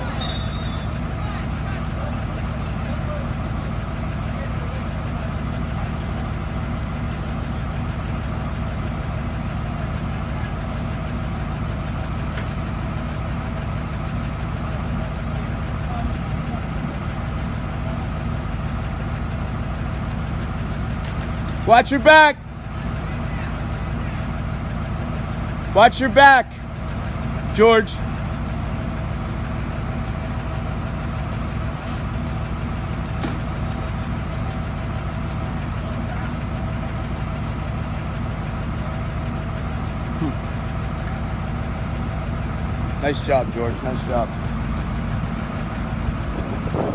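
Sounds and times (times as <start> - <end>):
truck engine droning: 0.0 - 46.9.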